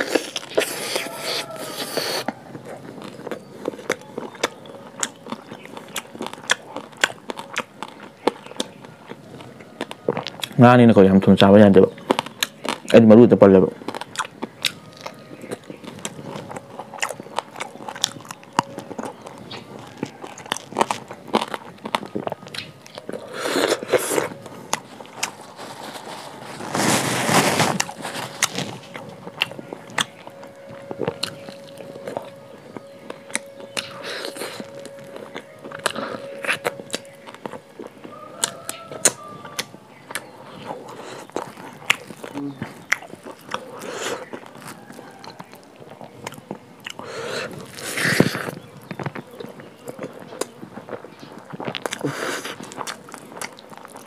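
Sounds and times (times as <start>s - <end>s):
crunching and chewing: 0.0s - 54.0s
faint steady hum: 0.0s - 54.0s.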